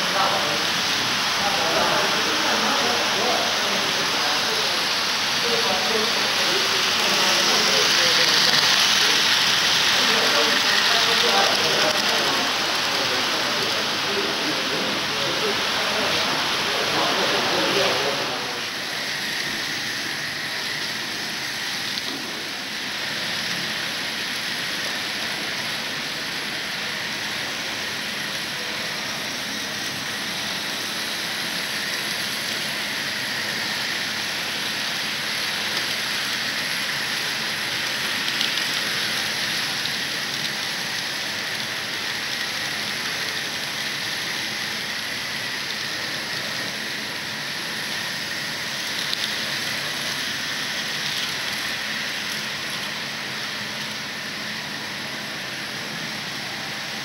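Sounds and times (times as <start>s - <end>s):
model trains running on track: 0.0s - 57.0s.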